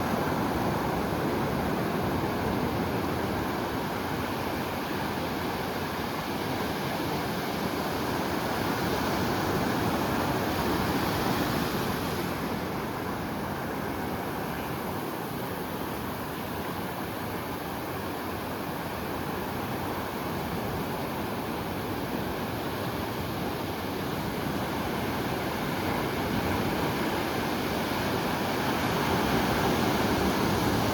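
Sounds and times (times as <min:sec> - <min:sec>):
waves breaking on a beach: 0:00.0 - 0:30.9.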